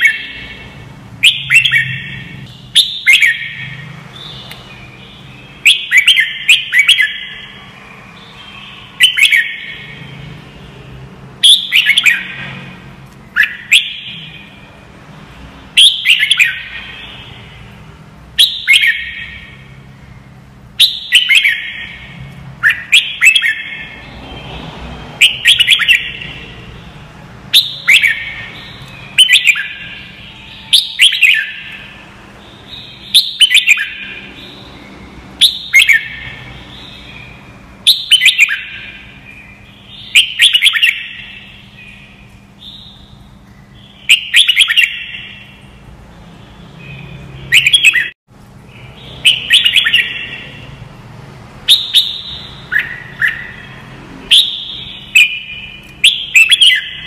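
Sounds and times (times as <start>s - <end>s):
bird singing whistled notes: 0.0s - 12.6s, 13.4s - 14.7s, 15.8s - 17.7s, 18.4s - 24.5s, 25.2s - 45.7s, 46.4s - 50.8s, 51.7s - 57.0s.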